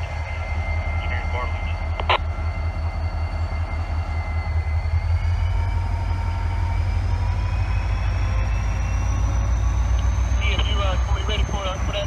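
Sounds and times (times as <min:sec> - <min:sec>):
high whine rising in pitch: 0:00.0 - 0:12.0
locomotive engine rumbling: 0:00.0 - 0:12.0.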